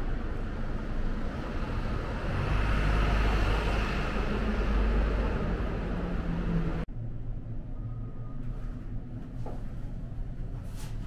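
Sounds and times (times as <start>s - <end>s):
passing vehicles rumbling: 0.0s - 10.9s
low hum: 0.0s - 11.0s.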